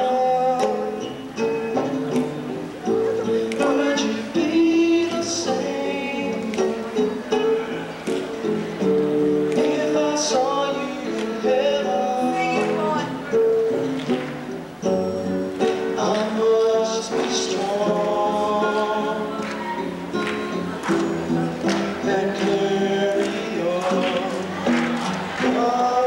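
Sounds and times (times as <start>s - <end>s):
instrumental song accompaniment: 0.0s - 26.0s.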